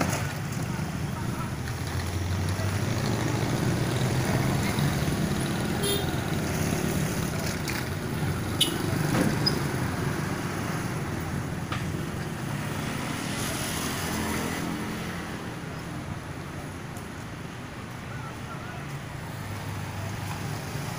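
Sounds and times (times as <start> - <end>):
car engines passing: 0.0 - 20.9.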